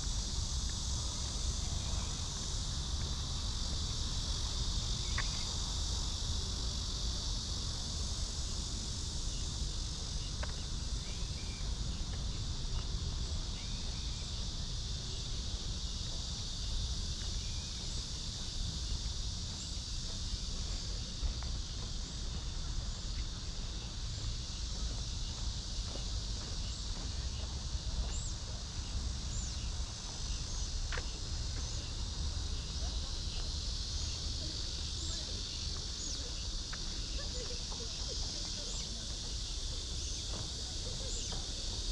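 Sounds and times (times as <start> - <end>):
cicadas buzzing: 0.0 - 41.9.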